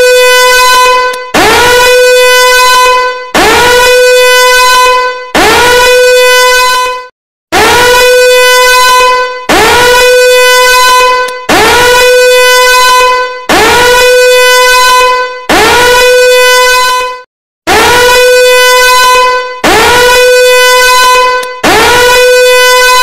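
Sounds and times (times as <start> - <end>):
alarm horn blasts: 0.0 - 23.0.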